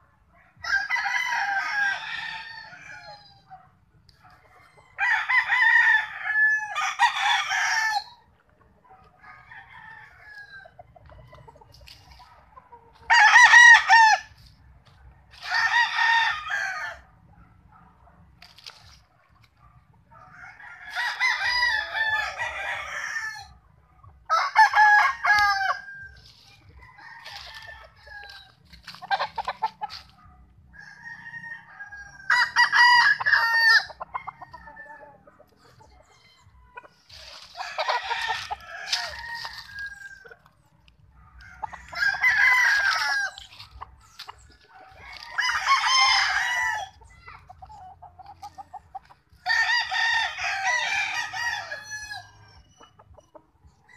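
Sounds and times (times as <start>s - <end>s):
distant roosters crowing: 0.0s - 53.9s
roosters crowing: 0.4s - 17.4s, 18.4s - 53.9s.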